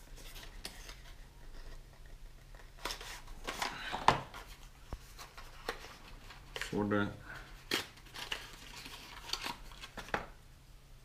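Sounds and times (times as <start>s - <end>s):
plastic parts rustling and scraping: 0.0s - 10.3s.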